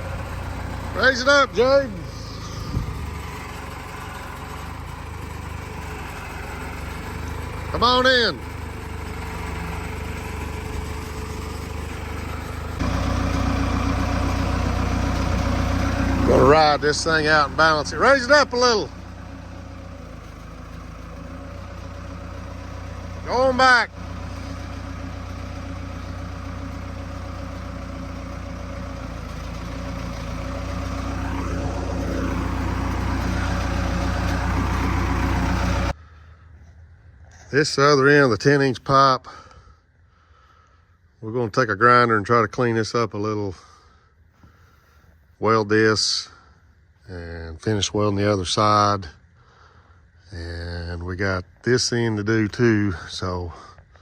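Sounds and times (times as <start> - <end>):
diesel engine revving: 0.0 - 40.7, 47.1 - 54.0.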